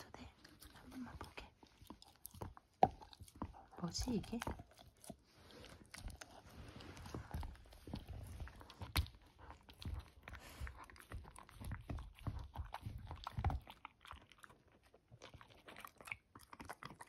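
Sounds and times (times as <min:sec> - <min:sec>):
dog crunching a hard treat: 0:00.3 - 0:17.0.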